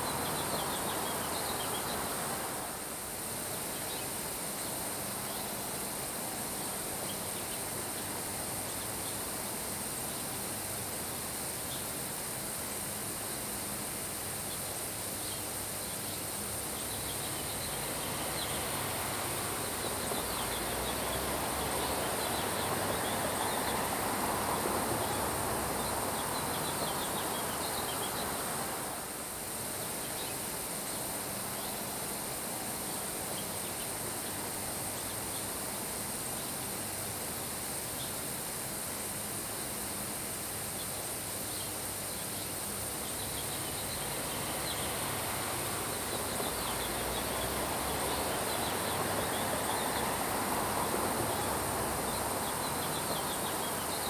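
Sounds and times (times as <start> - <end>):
rain: 0.0 - 54.0
wind hiss: 0.0 - 54.0.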